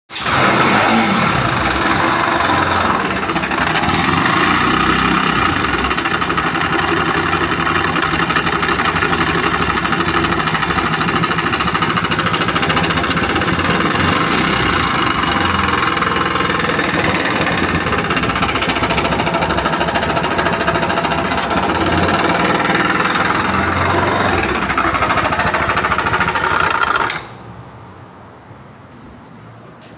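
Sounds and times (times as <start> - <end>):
motorcycle engine running: 0.2 - 27.2.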